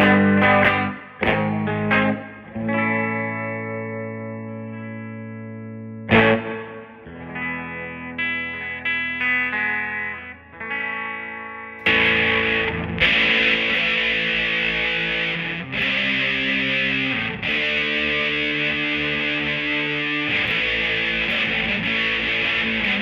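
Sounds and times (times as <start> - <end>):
distorted guitar chords: 0.0 - 23.0
electric guitar single notes: 0.0 - 23.0.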